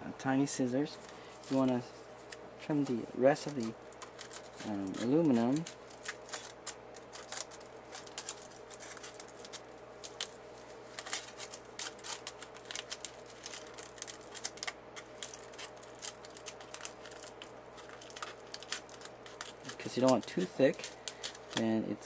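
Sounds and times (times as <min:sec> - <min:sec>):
scissors snipping foil: 0:02.8 - 0:21.8.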